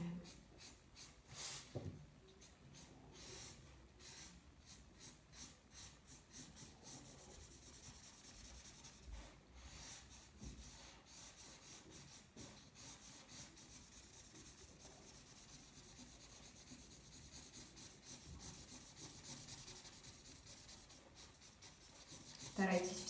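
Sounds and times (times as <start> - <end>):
marker scratching on paper: 0.1 - 1.8, 2.4 - 23.0.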